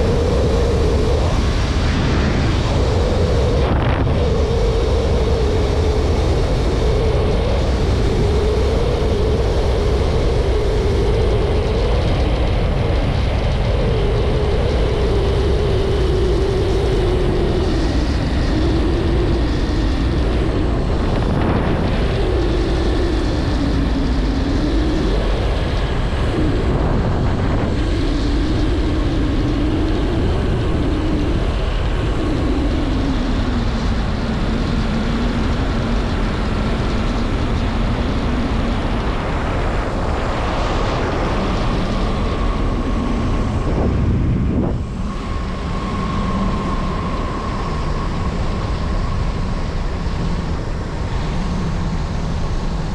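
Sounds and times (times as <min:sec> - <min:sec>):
wind rushing on microphone: 0:00.0 - 0:52.9.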